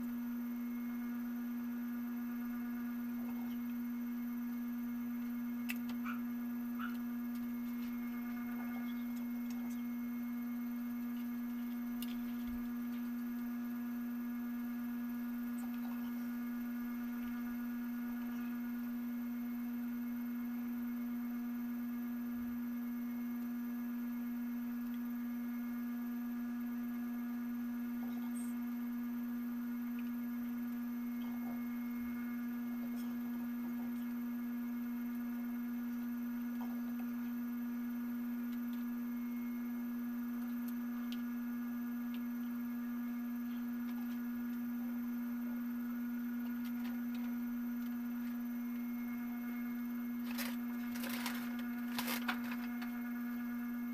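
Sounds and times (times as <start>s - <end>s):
electronic hum: 0.0s - 53.9s.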